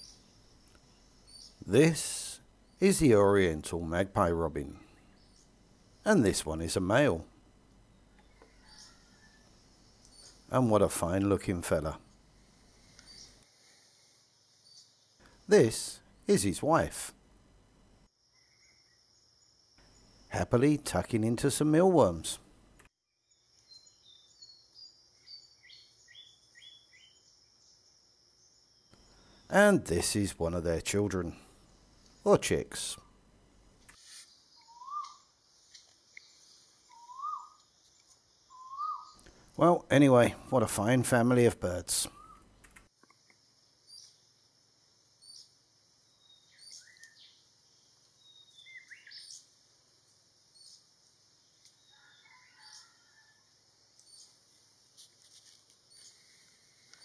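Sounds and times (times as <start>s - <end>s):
faint bird song: 0.0s - 22.4s, 23.0s - 57.0s.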